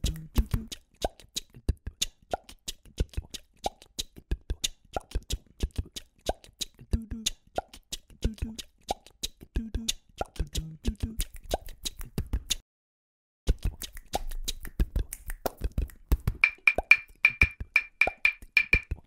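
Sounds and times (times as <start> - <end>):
beatbox mouth sounds: 0.0 - 12.6, 13.5 - 19.0.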